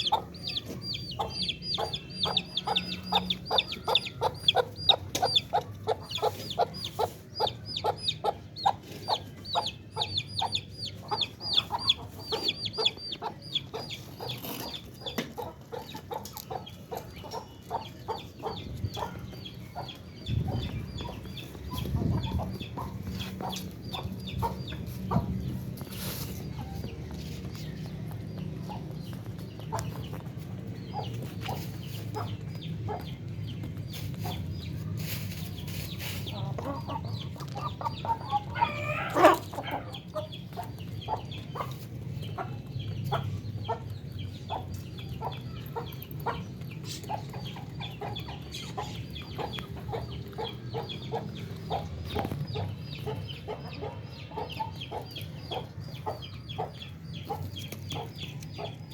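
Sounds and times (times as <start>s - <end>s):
chickens clucking: 0.0s - 58.9s.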